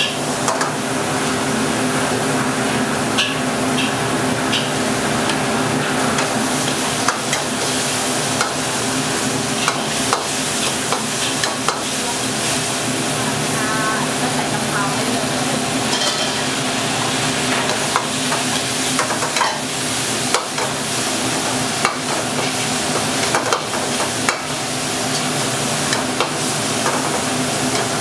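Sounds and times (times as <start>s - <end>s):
food sizzling in a wok: 0.0s - 28.0s.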